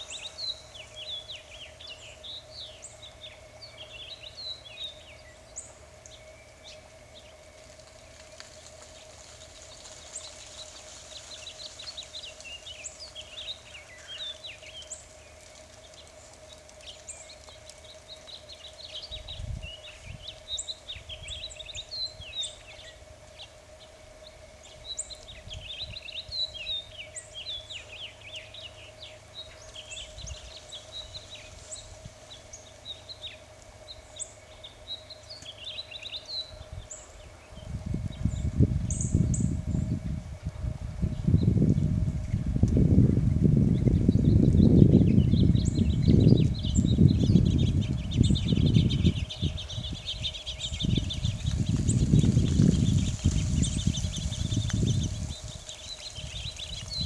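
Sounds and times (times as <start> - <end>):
faint steady hum: 0.0 - 57.0
small birds chirping: 0.0 - 57.0.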